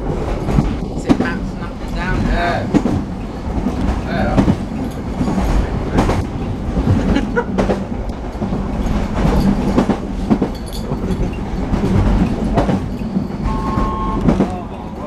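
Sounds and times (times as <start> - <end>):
train rumble and hum: 0.0 - 15.0
wheels knocking and rattling: 0.0 - 15.0.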